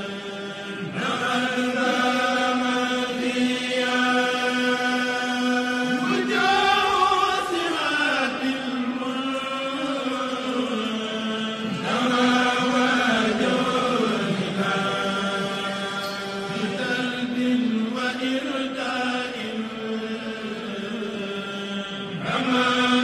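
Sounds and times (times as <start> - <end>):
person chanting: 0.0 - 23.0.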